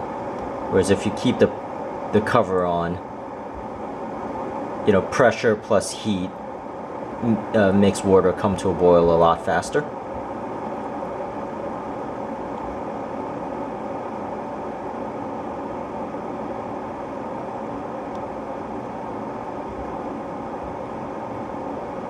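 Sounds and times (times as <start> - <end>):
electric kettle heating water: 0.0 - 22.0.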